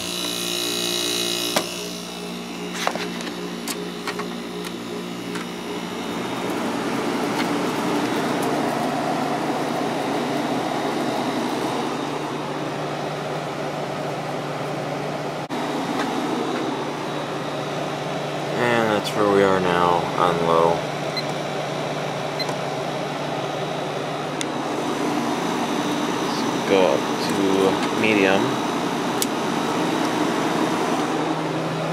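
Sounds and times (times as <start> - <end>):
air conditioner compressor humming: 0.0 - 31.9
fan rushing on low speed: 0.0 - 31.9.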